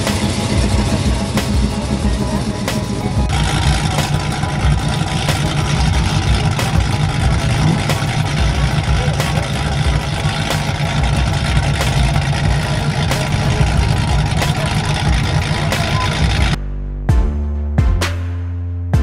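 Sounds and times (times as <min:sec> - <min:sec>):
car engine rumbling: 0:00.0 - 0:16.6.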